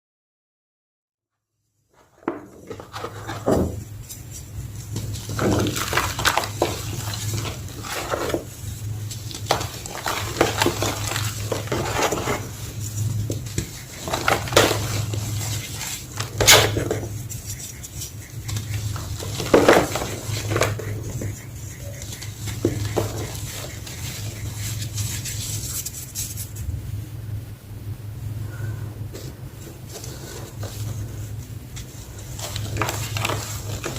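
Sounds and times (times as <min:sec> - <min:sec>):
steady low hum: 0:02.0 - 0:33.9
chalk crunching: 0:02.7 - 0:26.7, 0:29.6 - 0:33.9.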